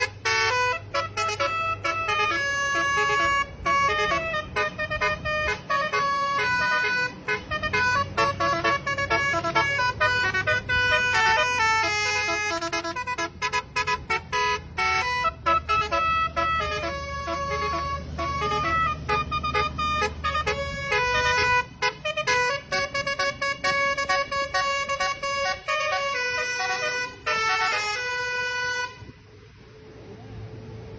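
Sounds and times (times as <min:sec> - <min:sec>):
multi-tone bus horn melody: 0:00.0 - 0:29.2
low engine rumble: 0:00.0 - 0:30.9.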